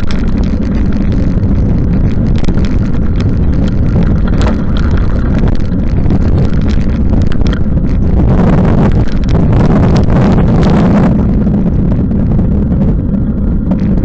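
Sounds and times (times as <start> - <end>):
sharp ticks: 0.0 - 11.3
wind rumble on microphone: 0.0 - 14.0.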